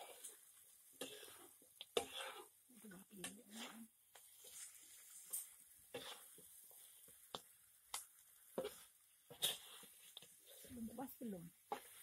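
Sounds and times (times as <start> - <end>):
food sizzling in a pan: 0.0 - 12.0
oil popping and crackling: 0.0 - 12.0.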